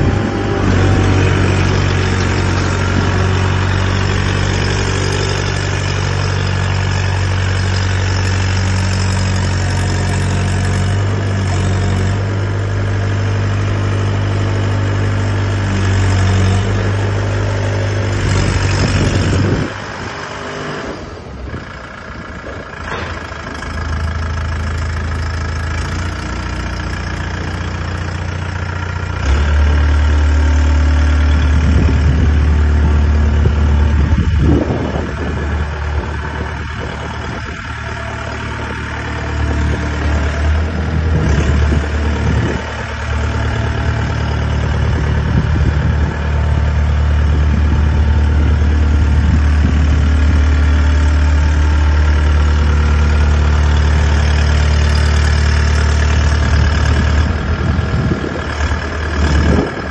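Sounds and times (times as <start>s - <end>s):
pile driver rig engine running: 0.0s - 59.9s.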